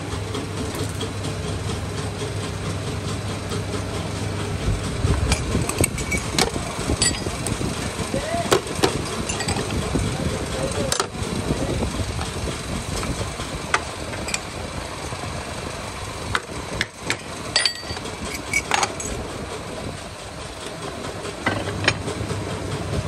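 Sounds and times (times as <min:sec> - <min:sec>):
workshop machinery humming: 0:00.0 - 0:23.0.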